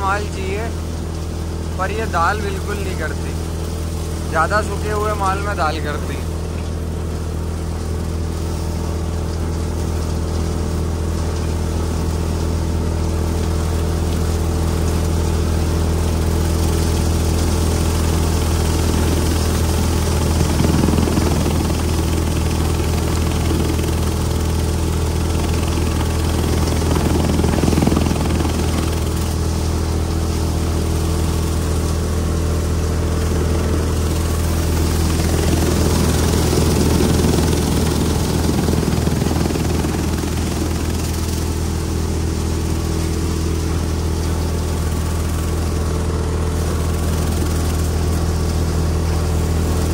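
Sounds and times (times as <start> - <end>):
diesel tractor engine under load: 0.0 - 49.9.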